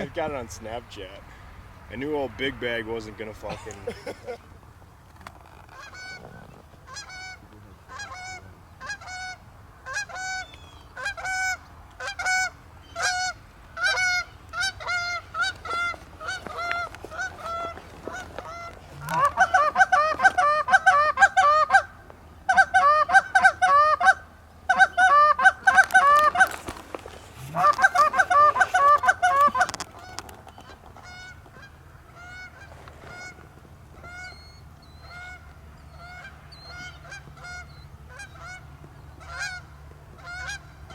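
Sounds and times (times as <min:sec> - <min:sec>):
geese honking and clucking: 0:05.2 - 0:40.9.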